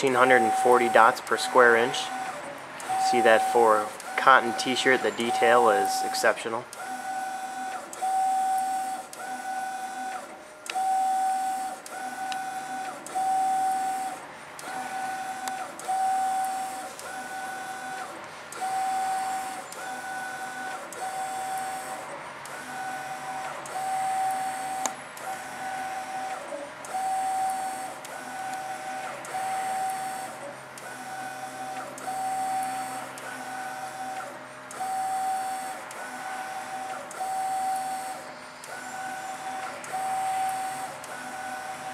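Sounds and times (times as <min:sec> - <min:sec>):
printer carriage humming sweeps: 0:00.0 - 0:41.9.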